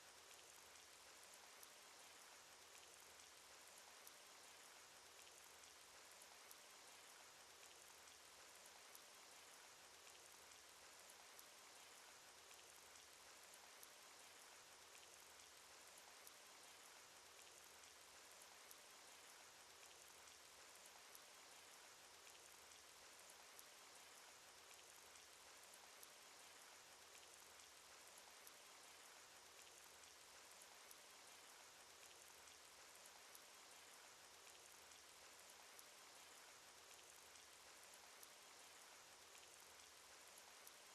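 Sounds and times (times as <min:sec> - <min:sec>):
faint rain hiss: 0:00.0 - 0:40.9.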